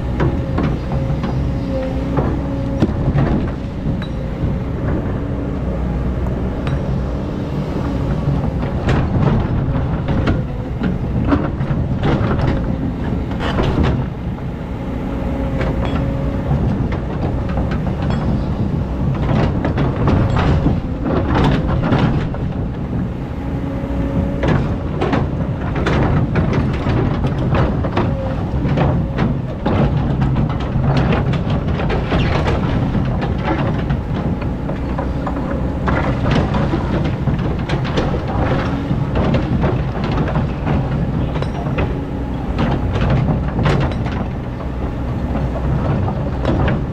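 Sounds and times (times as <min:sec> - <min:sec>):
diesel engine under load: 0:00.0 - 0:46.9
excavator bucket knocks and scrapes: 0:00.1 - 0:05.7, 0:06.3 - 0:14.4, 0:15.4 - 0:23.1, 0:24.1 - 0:46.9.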